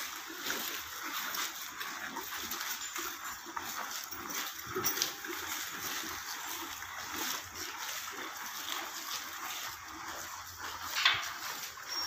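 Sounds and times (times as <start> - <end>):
cows munching fodder: 0.0 - 12.0.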